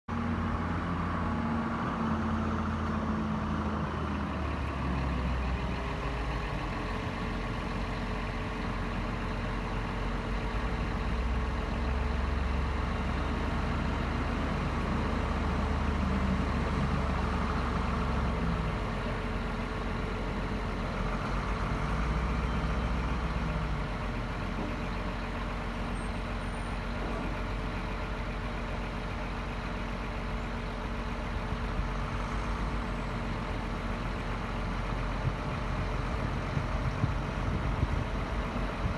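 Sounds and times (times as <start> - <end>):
truck diesel engine running: 0.1 - 38.9.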